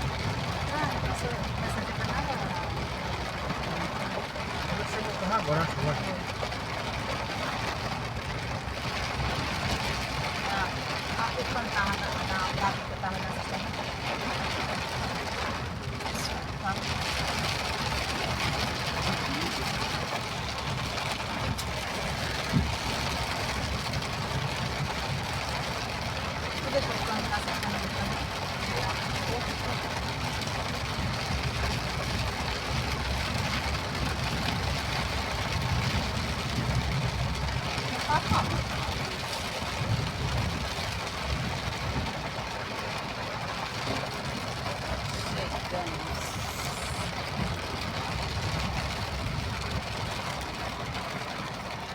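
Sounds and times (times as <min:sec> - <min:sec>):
rain and road noise hiss: 0:00.0 - 0:51.9
vehicle engine rumble: 0:00.0 - 0:51.9.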